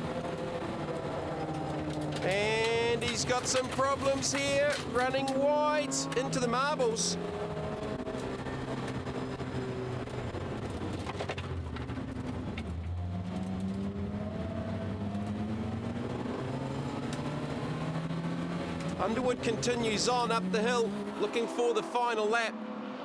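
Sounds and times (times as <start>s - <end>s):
race car engine under load: 0.0s - 23.0s
road and wind noise: 0.0s - 23.0s.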